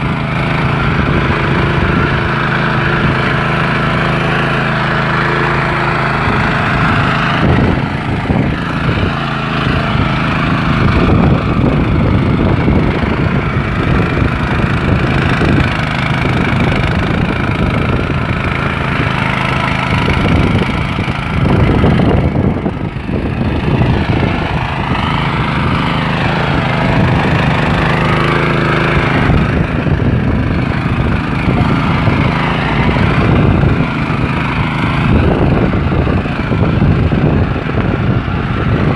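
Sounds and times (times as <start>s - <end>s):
tiller engine running under load: 0.0s - 38.9s
tines churning dry soil: 0.0s - 38.9s.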